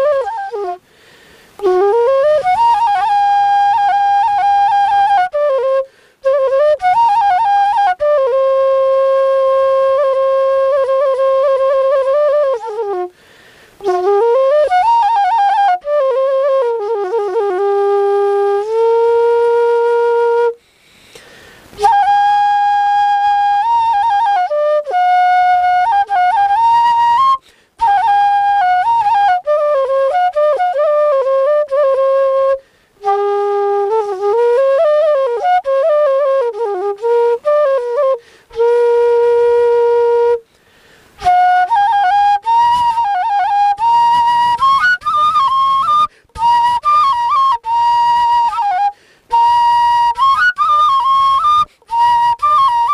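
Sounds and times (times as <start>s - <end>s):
bamboo flute folk melody: 0.0s - 52.9s.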